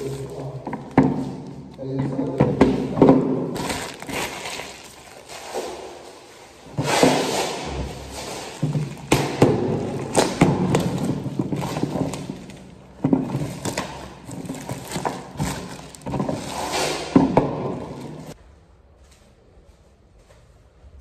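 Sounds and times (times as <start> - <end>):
plastic bins knocking and thudding: 0.0 - 18.4
plastic wrap rustling: 0.0 - 18.4.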